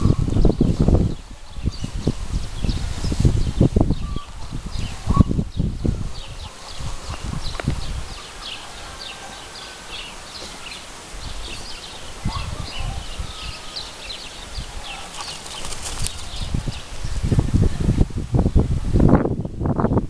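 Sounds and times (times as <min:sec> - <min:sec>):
wind rumble on microphone: 0:00.0 - 0:10.4, 0:11.2 - 0:20.0
small birds chirping: 0:00.0 - 0:17.8.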